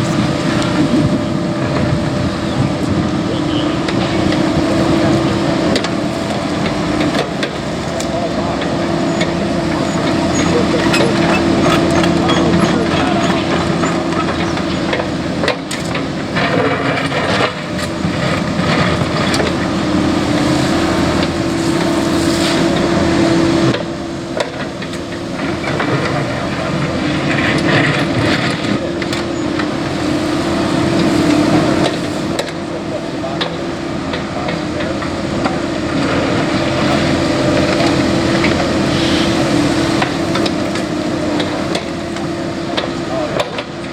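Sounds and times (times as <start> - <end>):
excavator engine and hydraulics whining: 0.0 - 43.9.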